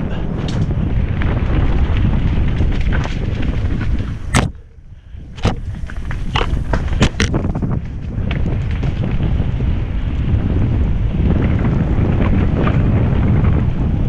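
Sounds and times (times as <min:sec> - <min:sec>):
bike clacks and rattles: 0:00.0 - 0:14.0
wind buffeting microphone: 0:00.0 - 0:14.0.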